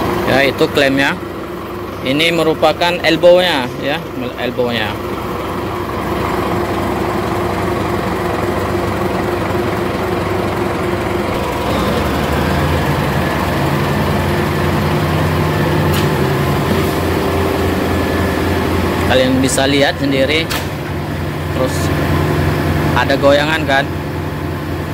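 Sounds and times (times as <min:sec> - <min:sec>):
concrete pump engine running: 0:00.0 - 0:24.9.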